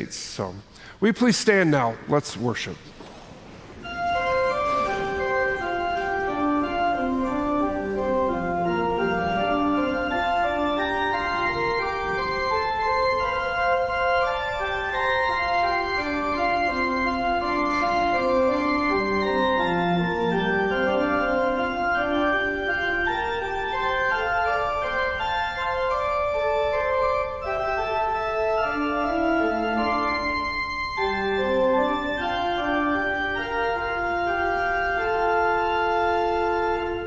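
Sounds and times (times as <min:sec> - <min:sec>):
church organ chords: 0:03.8 - 0:37.0.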